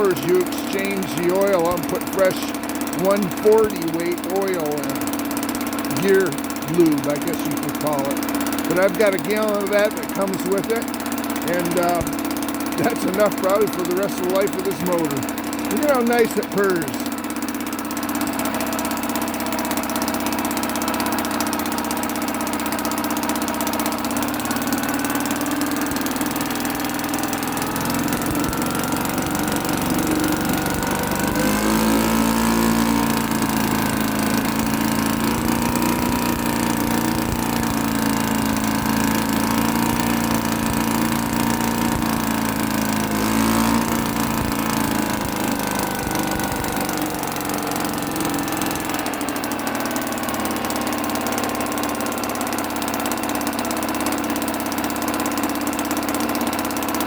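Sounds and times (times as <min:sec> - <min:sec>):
outboard motor purring: 0:00.0 - 0:57.0.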